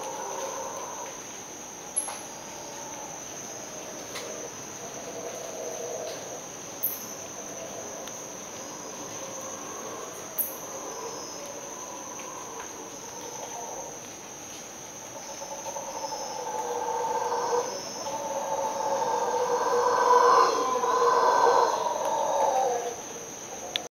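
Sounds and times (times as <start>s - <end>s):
distant howler monkeys roaring: 0.0s - 1.2s, 2.4s - 6.6s, 7.3s - 14.1s, 15.0s - 23.7s
high insect trilling: 1.8s - 23.9s.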